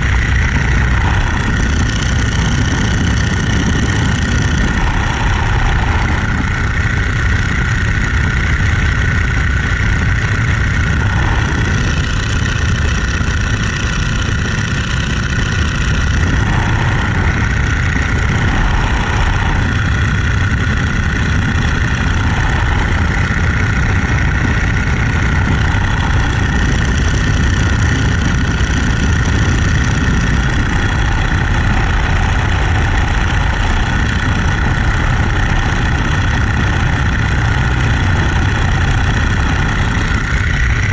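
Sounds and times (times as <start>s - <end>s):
biplane engine drone: 0.0s - 40.9s
rush of air: 0.0s - 40.9s.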